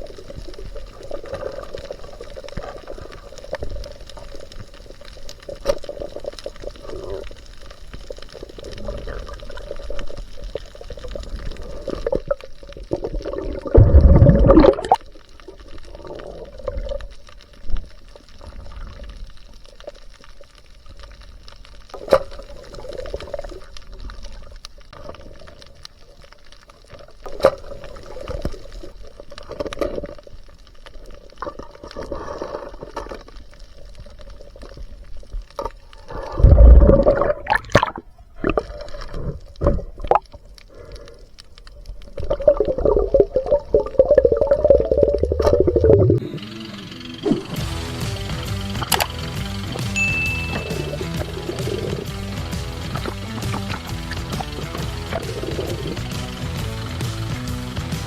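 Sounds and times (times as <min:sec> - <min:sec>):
rushes of water: 0:00.0 - 0:46.2, 0:48.8 - 0:57.0
water sloshing and gurgling: 0:00.0 - 0:46.2, 0:48.8 - 0:49.2, 0:50.6 - 0:56.5.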